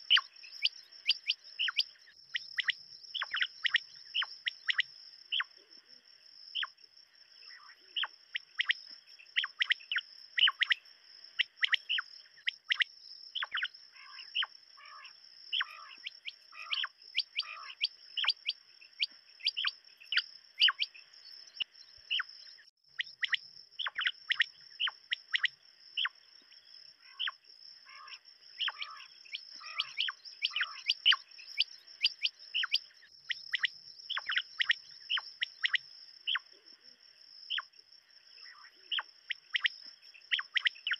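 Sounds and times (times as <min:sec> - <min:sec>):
quail chirping: 0:00.0 - 0:05.5, 0:07.5 - 0:21.0, 0:22.1 - 0:22.3, 0:22.9 - 0:26.2, 0:27.0 - 0:36.6, 0:37.5 - 0:37.7, 0:38.4 - 0:40.9.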